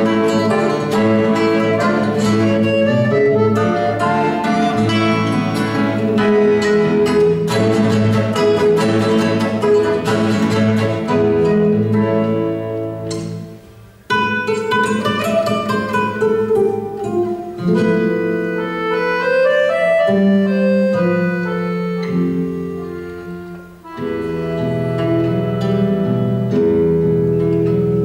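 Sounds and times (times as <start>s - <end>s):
accordion chords: 0.0s - 28.0s
plucked guitar notes: 0.0s - 28.0s.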